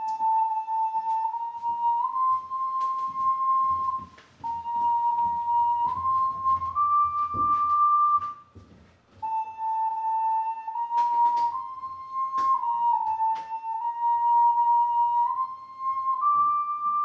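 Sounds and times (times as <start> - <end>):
ocarina slow melody: 0.0 - 17.0.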